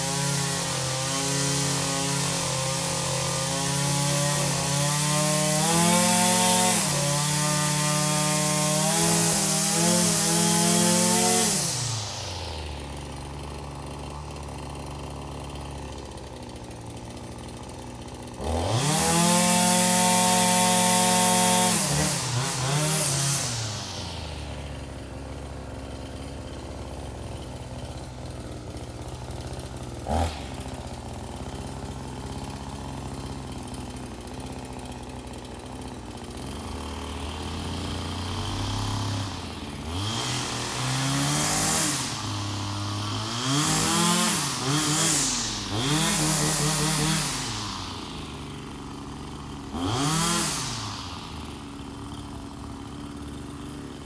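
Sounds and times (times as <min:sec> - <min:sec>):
small two-stroke engine revving: 0:00.0 - 0:54.0.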